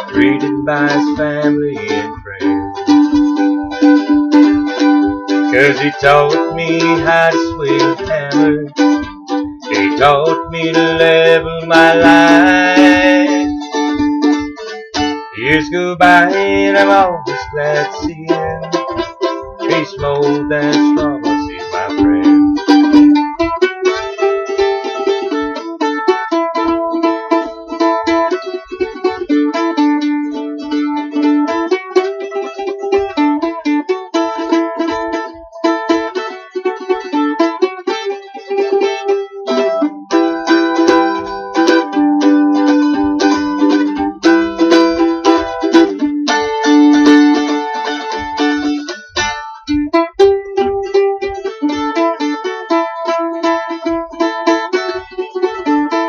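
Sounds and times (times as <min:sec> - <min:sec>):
mandolin picking a melody: 0:00.0 - 0:56.0.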